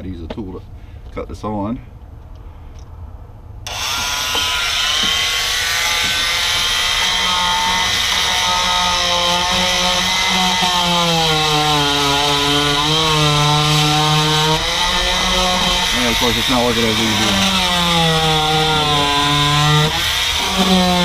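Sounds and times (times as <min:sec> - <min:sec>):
oscillating multi-tool scraping: 0:03.7 - 0:21.0.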